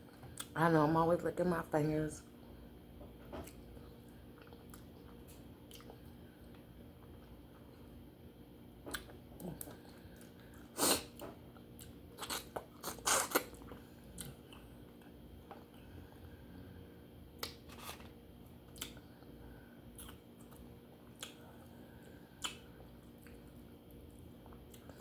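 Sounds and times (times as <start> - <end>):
quiet chewing: 2.4 - 8.1, 8.8 - 16.4, 17.4 - 25.0.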